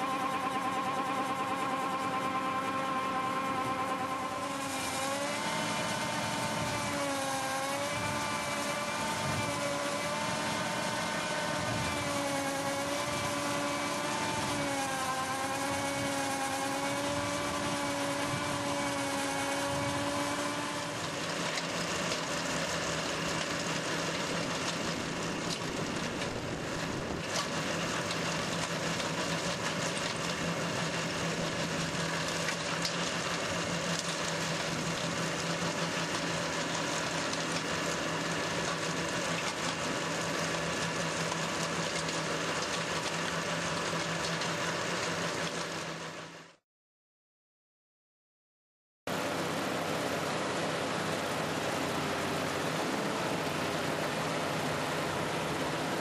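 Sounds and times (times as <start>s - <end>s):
tractor engine under load: 0.0s - 46.6s, 49.1s - 56.0s.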